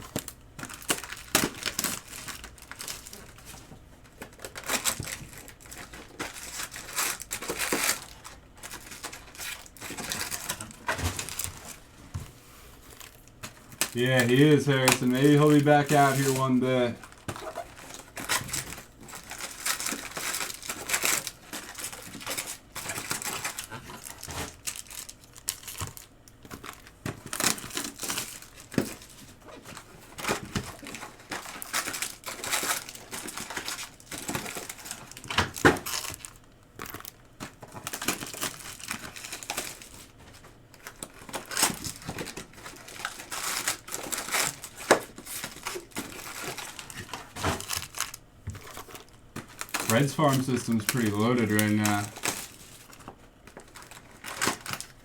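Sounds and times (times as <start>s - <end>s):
foil wrappers crinkling and tearing: 0.0s - 55.0s.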